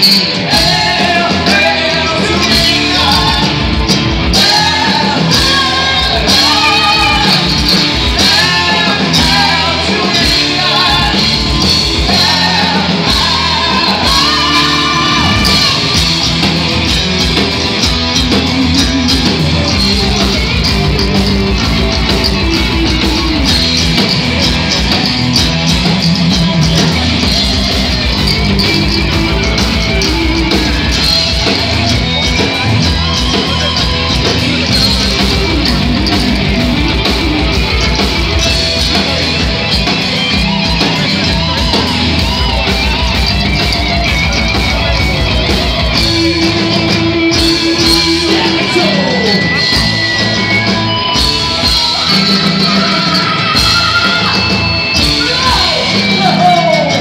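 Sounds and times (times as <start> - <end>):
bass guitar: 0.0 - 57.0
distorted electric guitars: 0.0 - 57.0
drums: 0.0 - 57.0.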